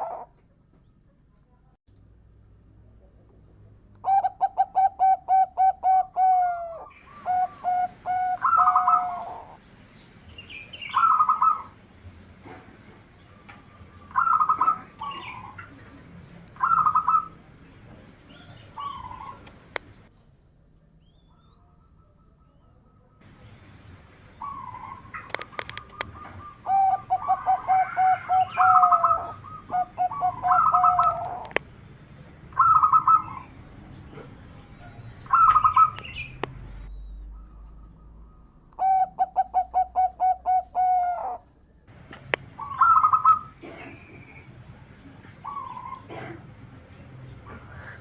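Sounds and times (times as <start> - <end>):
doves cooing: 0.0 - 0.5, 4.0 - 9.6, 10.7 - 20.1, 21.3 - 31.6, 32.4 - 36.4, 37.2 - 48.0.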